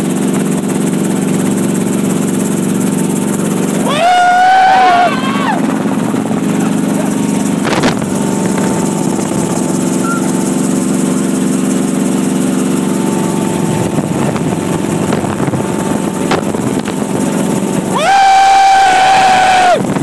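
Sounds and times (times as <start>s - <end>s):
helicopter engine and rotor noise: 0.0s - 20.0s.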